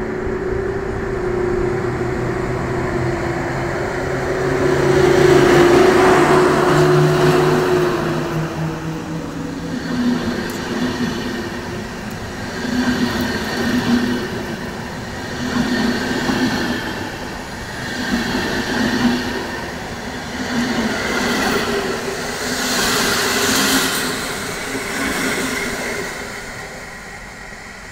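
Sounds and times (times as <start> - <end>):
train wheels rumbling on rails: 0.0 - 27.9
hissing wheel noise: 4.3 - 27.5.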